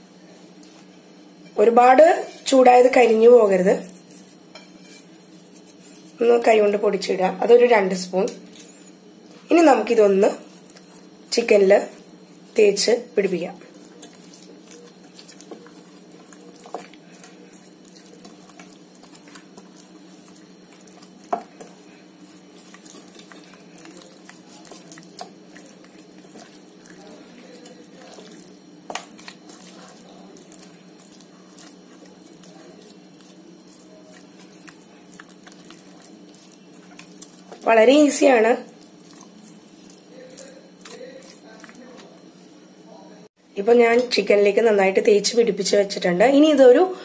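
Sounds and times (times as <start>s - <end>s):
steady low hum: 0.0s - 45.4s
squishing marinade into chicken: 1.6s - 7.6s, 8.3s - 42.6s.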